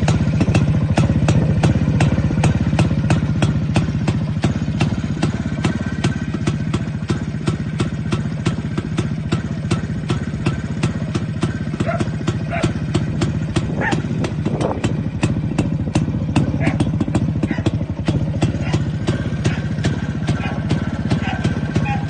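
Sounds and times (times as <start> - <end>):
two-stroke engine idling: 0.0 - 22.0.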